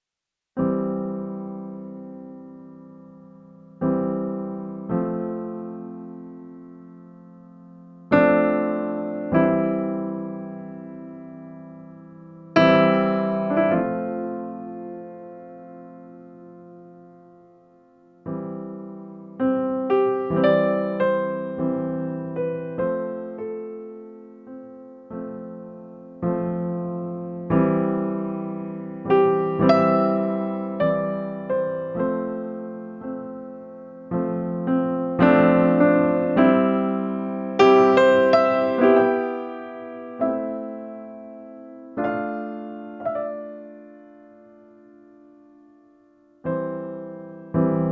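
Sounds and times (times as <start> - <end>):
slow piano music: 0.6 - 47.9.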